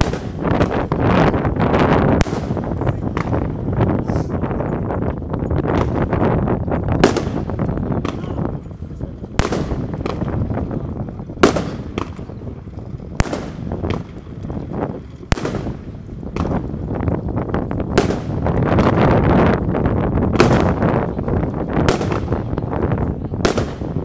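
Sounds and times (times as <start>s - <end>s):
firework pops and crackle: 0.0s - 4.2s, 5.4s - 24.0s
firework bangs: 0.0s - 24.0s.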